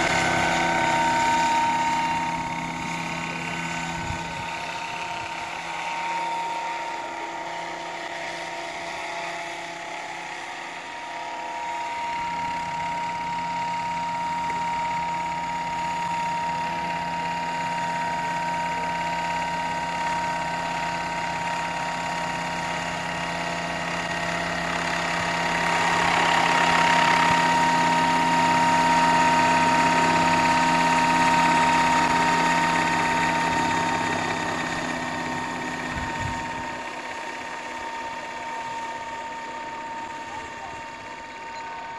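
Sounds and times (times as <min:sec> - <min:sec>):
model helicopter whining: 0:00.0 - 0:41.9.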